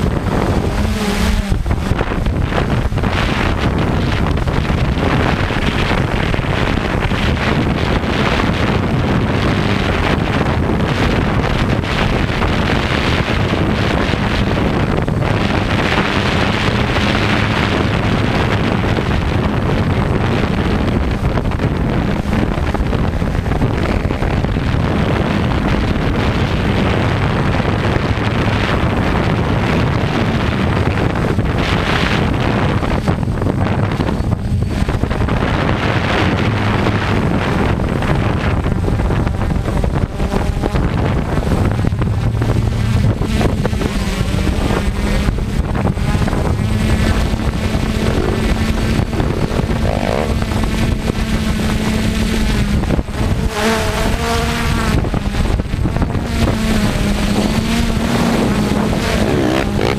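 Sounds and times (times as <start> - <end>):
quadcopter motors humming: 0.0 - 59.9
wind buffeting microphone: 0.0 - 59.9.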